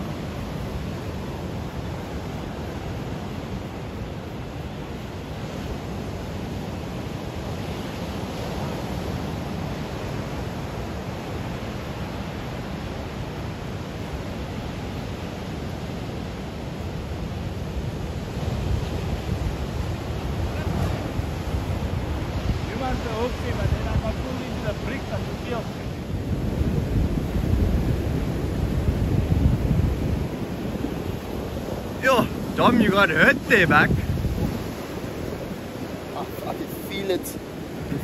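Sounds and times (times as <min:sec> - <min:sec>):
surf breaking on shore: 0:00.0 - 0:38.0
wind buffeting microphone: 0:00.0 - 0:38.0.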